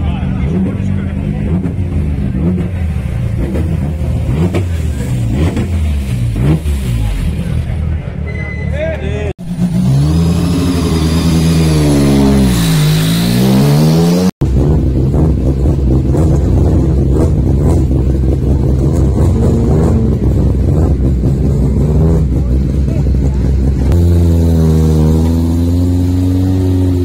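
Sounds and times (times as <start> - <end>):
rally car engine revving: 0.0 - 8.7, 9.4 - 27.0.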